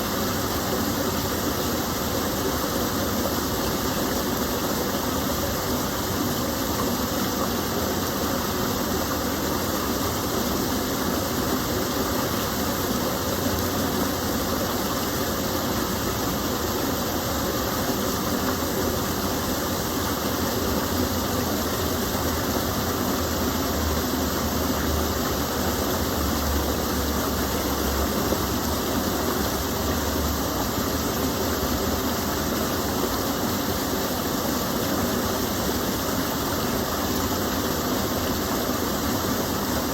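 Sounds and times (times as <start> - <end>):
water rushing over a drop: 0.0 - 39.9.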